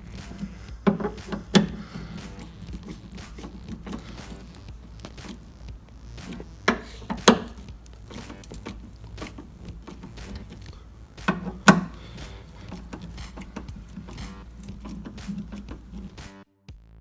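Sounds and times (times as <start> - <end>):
light clicks and taps: 0.0 - 16.3.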